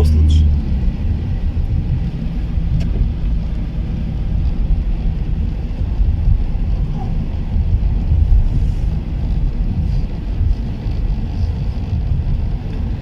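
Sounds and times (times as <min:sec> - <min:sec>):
road and wind noise in car: 0:00.0 - 0:13.0.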